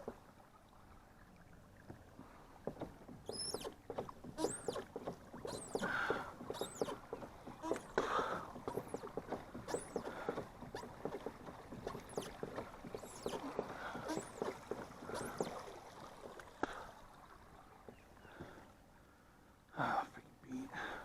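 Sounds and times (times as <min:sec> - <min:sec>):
water splashing against kayak hull: 0:00.0 - 0:18.8.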